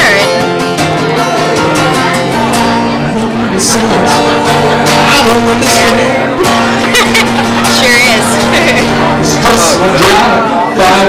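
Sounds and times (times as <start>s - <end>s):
person singing: 0.0s - 7.4s, 8.2s - 11.0s
acoustic guitar: 0.0s - 11.0s.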